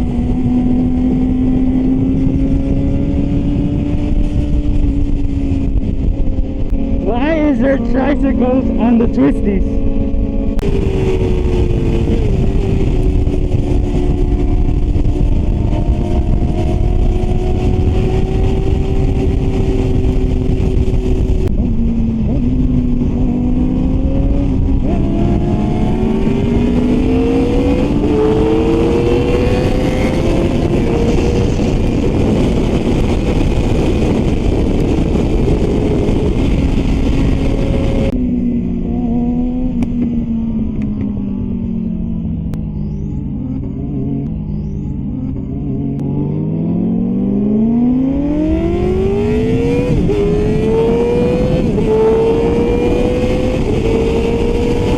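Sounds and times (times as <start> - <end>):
motorcycle engine at high revs: 0.0 - 54.9
wind rush: 0.0 - 54.9.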